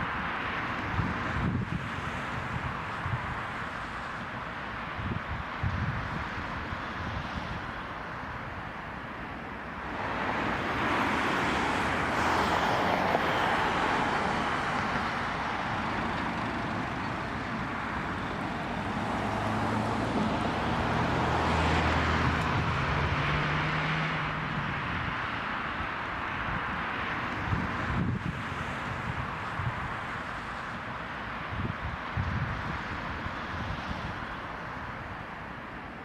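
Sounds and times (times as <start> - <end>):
car tyre noise passing: 0.0 - 36.0
vehicle engine hum: 0.0 - 36.0.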